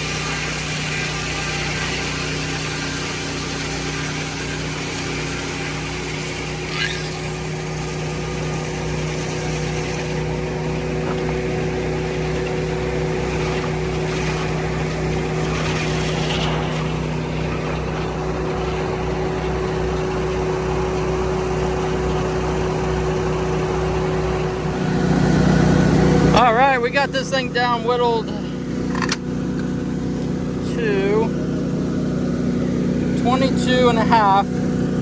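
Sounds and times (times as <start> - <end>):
sawmill engine humming: 0.0 - 35.0.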